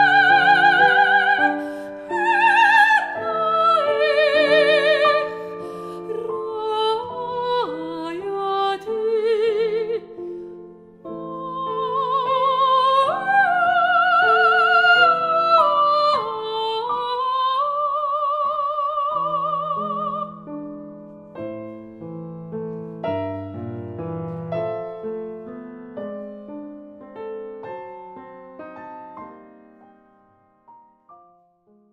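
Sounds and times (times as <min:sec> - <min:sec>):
soprano singing: 0:00.0 - 0:25.6
piano accompaniment: 0:00.0 - 0:31.9.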